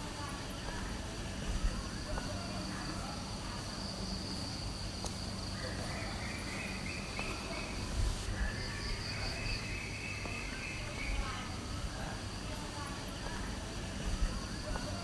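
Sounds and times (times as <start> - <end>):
high-pitched insect chorus: 0.1 - 13.2.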